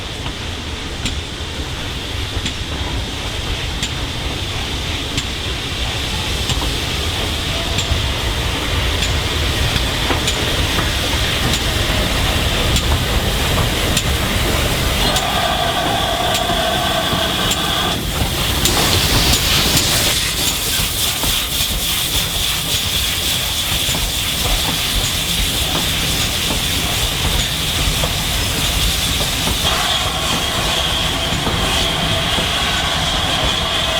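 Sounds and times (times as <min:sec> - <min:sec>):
steam hiss: 0:00.0 - 0:33.9
steam train rumbling: 0:00.0 - 0:33.9.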